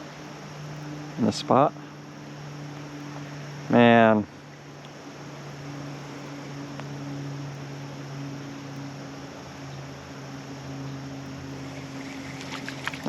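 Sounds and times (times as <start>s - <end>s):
creek water rushing: 0.0s - 13.0s
low steady hum: 0.0s - 13.0s.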